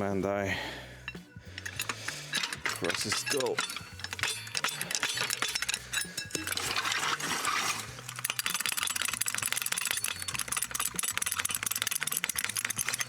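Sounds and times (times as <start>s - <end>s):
metal hand tools clinking: 1.0s - 13.0s.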